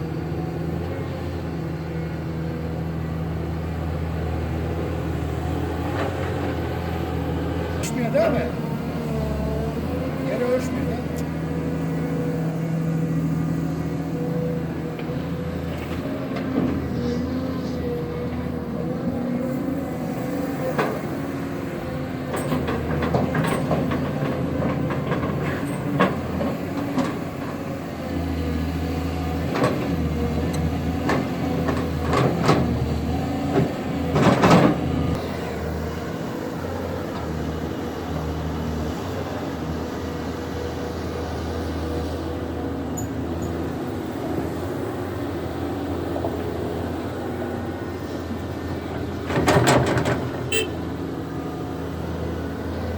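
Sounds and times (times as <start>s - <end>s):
excavator diesel engine: 0.0s - 52.9s.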